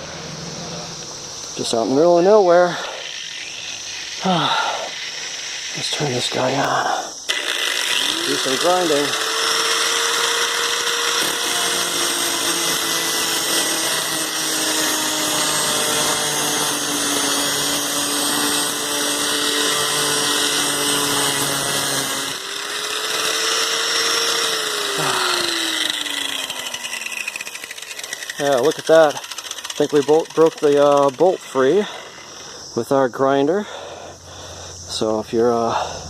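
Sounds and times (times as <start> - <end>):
angle grinder cutting steel: 0.6 - 33.0.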